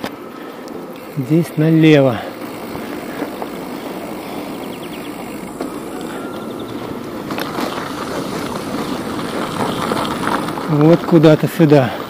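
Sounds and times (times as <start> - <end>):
bicycle tyres rolling: 0.0 - 12.0.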